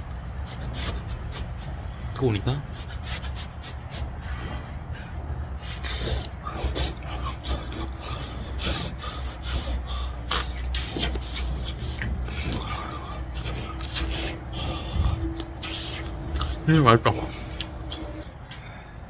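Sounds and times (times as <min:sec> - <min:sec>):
person huffing while chewing: 0:00.3 - 0:04.8, 0:05.6 - 0:18.9.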